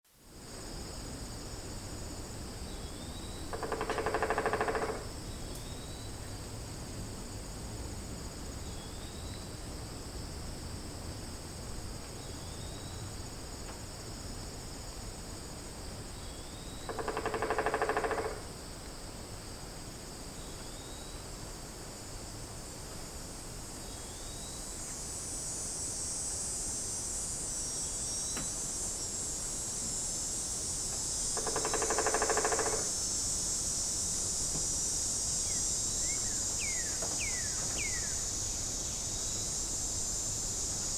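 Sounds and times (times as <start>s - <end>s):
crickets and insects chorus: 0.1s - 40.9s
rattling pulsed insect call: 0.3s - 22.8s, 23.4s - 40.9s.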